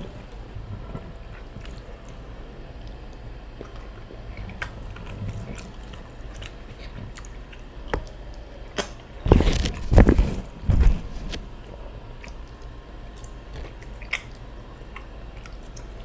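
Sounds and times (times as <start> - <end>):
chewing with mouth clicks: 0.0 - 16.0.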